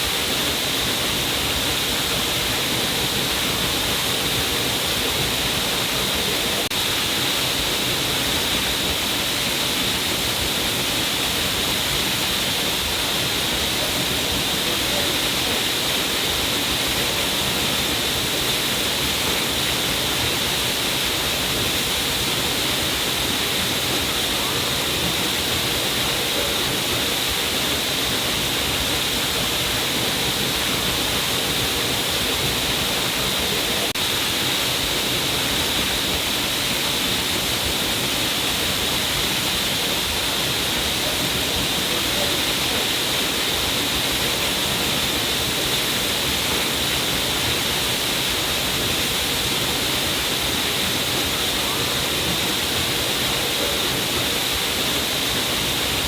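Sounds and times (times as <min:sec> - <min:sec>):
water pouring down a cliff: 0:00.0 - 0:56.0.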